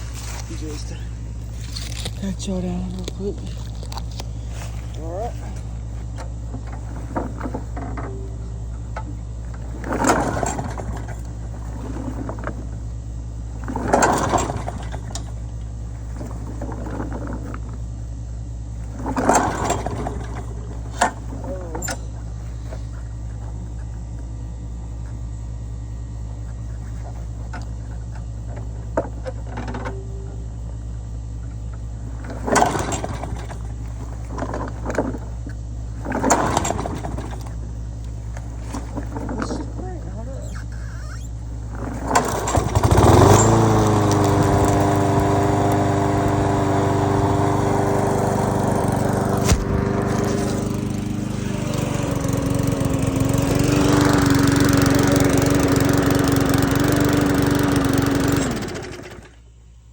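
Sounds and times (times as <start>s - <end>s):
lawn mower engine running: 0.0s - 25.3s, 26.1s - 59.9s.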